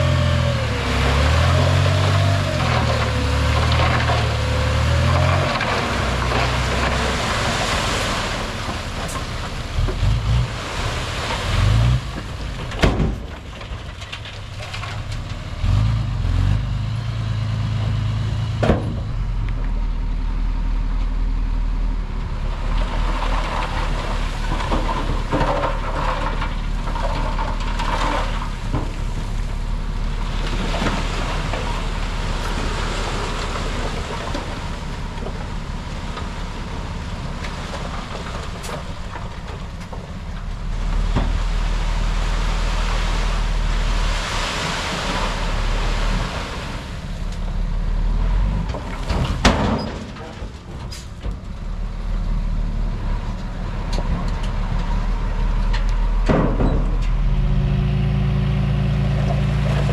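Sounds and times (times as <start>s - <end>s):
diesel machinery engine droning: 0.0s - 59.9s.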